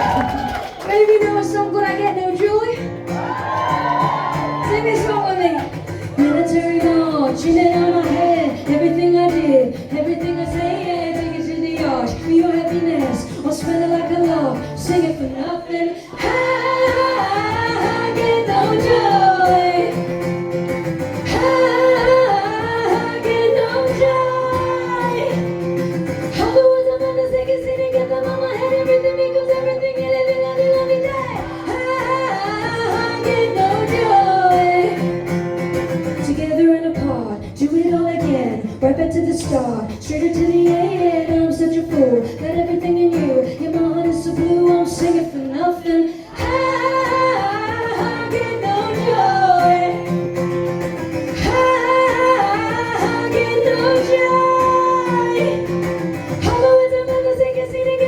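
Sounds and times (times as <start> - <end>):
guitar accompaniment: 0.0 - 58.0
woman singing: 0.0 - 58.0.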